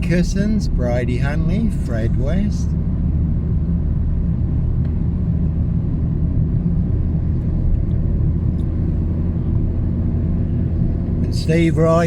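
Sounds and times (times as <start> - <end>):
car engine drone: 0.0 - 12.0
road rumble: 0.0 - 12.0.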